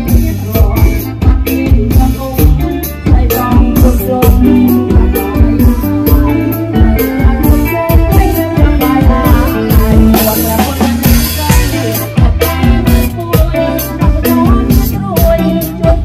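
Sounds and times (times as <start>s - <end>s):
bass line: 0.0s - 16.0s
drum kit beat: 0.0s - 16.0s
live band music: 0.0s - 16.0s.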